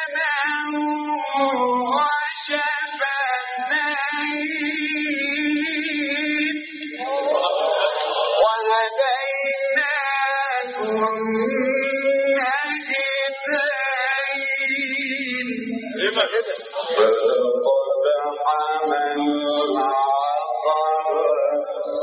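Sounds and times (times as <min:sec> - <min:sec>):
man chanting recitation: 0:00.0 - 0:22.0.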